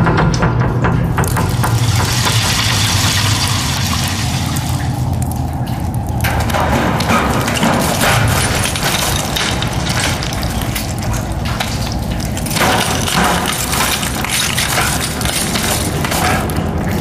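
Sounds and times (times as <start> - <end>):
crunching and scraping through debris: 1.2 - 17.0.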